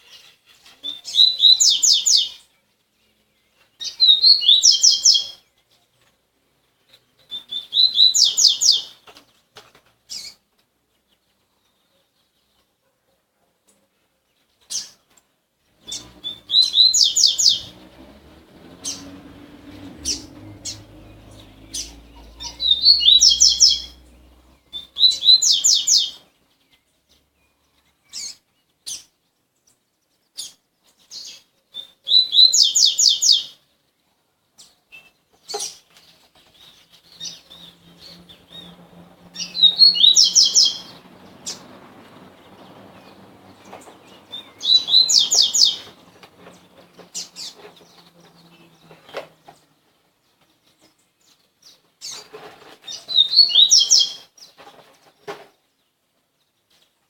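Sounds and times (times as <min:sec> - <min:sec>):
birds singing sharp repeated notes: 0:00.0 - 0:12.8, 0:14.2 - 0:57.0.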